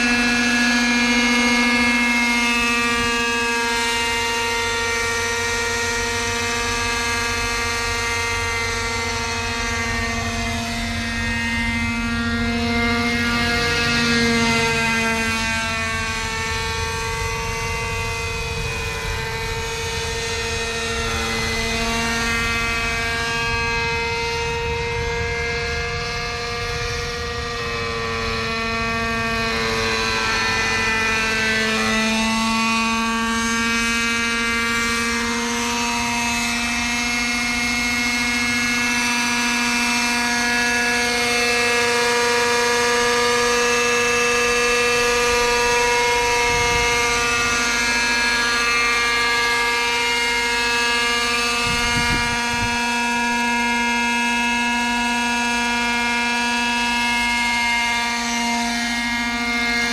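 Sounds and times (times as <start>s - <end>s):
model helicopter engine and rotors droning: 0.0s - 59.9s.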